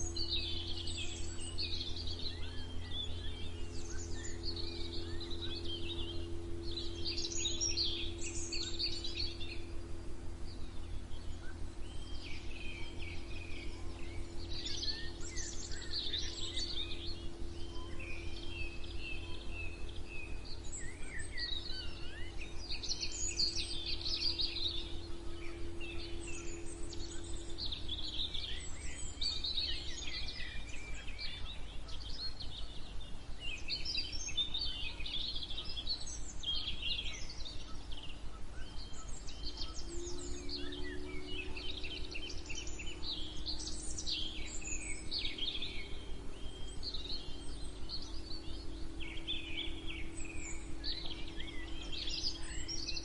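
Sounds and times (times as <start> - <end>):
faint steady hum: 0.0 - 53.0
songbirds chirping: 0.0 - 53.0
steady low rumble: 0.0 - 53.0.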